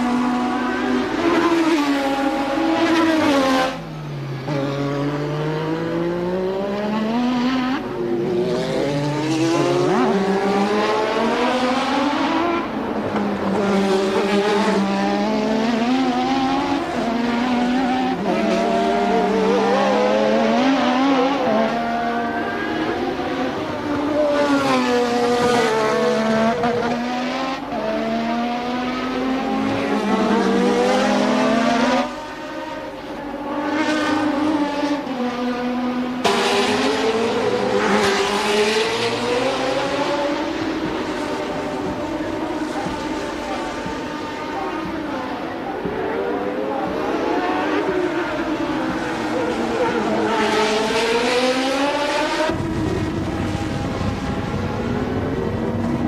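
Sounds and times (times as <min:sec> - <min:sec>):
racing car engine revving: 0:00.0 - 0:56.0.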